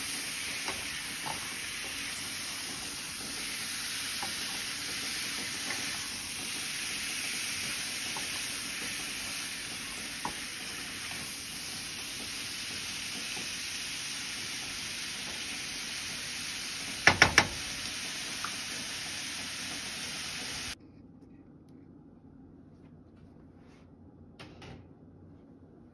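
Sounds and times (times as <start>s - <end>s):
meat sizzling in a pan: 0.0s - 20.8s.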